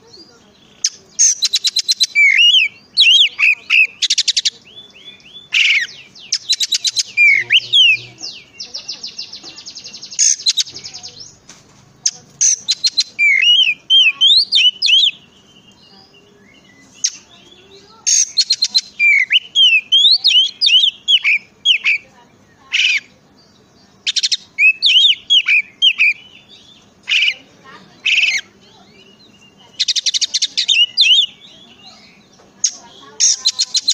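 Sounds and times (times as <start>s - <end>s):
songbird singing trills and whistles: 0.0s - 33.9s.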